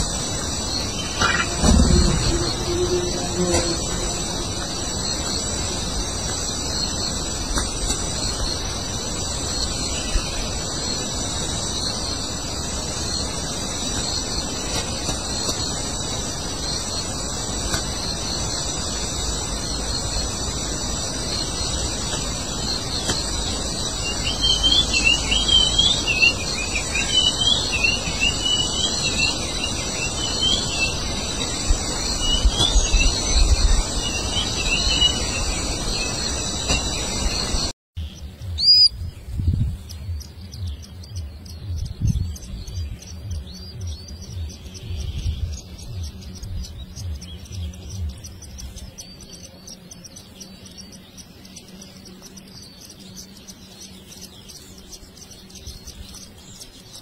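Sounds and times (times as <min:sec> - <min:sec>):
insect hum: 0:00.0 - 0:57.0
small birds chirping: 0:00.0 - 0:57.0.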